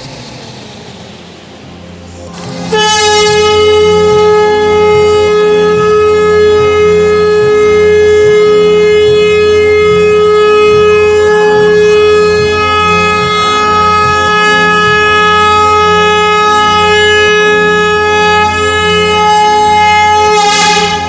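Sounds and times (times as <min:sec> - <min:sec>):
loud horn-like held note: 0:02.4 - 0:21.0.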